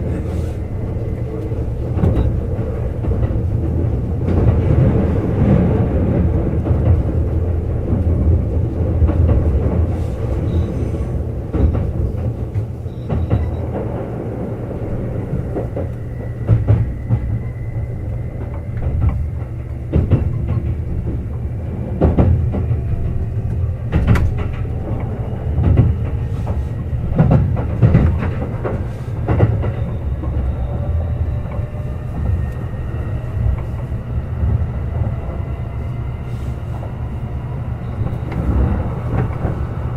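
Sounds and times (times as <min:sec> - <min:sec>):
wheels clicking over rail joints: 0:00.0 - 0:35.4
train rumbling: 0:00.0 - 0:39.9.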